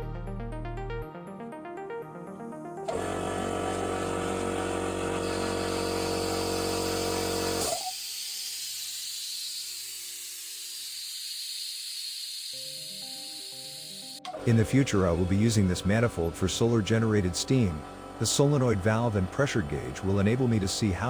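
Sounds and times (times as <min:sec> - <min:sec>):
solenoid valve buzzing: 0:02.9 - 0:21.0.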